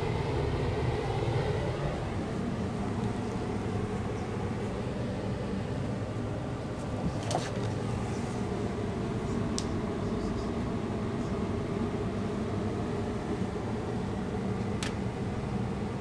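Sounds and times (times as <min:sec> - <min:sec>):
room background hum: 0:00.0 - 0:16.0.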